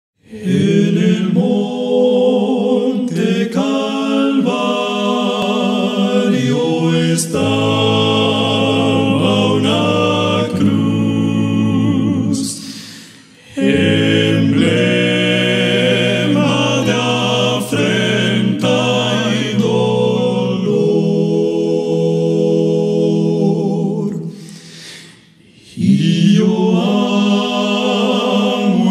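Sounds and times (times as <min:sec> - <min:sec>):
male quartet singing a cappella: 0:00.2 - 0:28.9.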